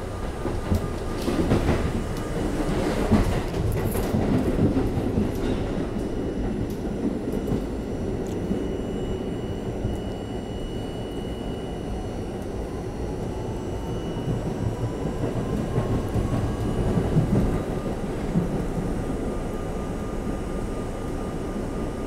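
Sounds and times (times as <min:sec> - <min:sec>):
subway wheels rumbling on track: 0:00.0 - 0:22.0.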